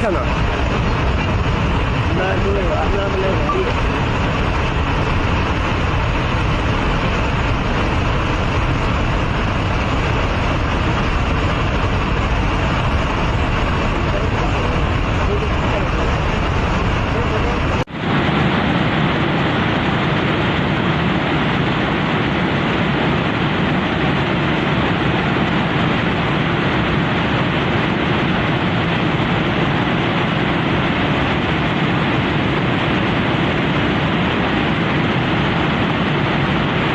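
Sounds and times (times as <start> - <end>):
rushing floodwater: 0.0 - 36.9.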